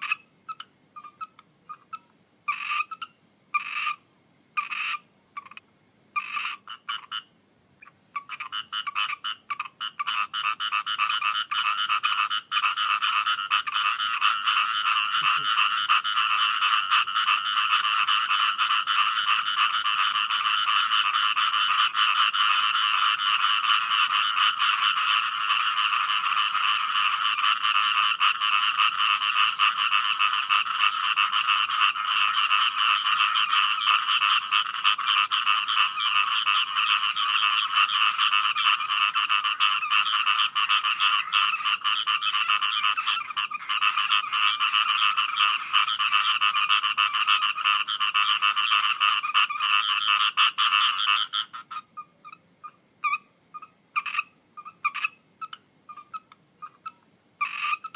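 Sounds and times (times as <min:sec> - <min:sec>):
frogs croaking: 0:00.0 - 0:57.9.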